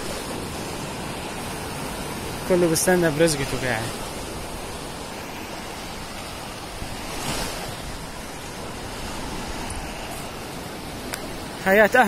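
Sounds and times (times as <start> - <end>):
sea surf on sandy beach: 0.0 - 12.0.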